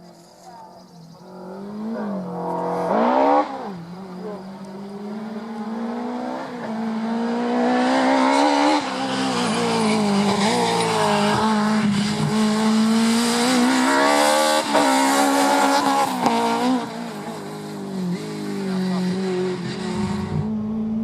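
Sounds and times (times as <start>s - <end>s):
rally car engine revving: 1.2s - 21.0s.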